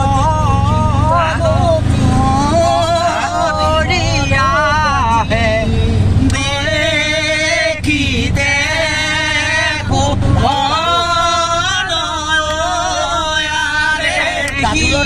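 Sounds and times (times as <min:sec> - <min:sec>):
low engine rumble: 0:00.0 - 0:15.0
young men singing together: 0:00.0 - 0:15.0.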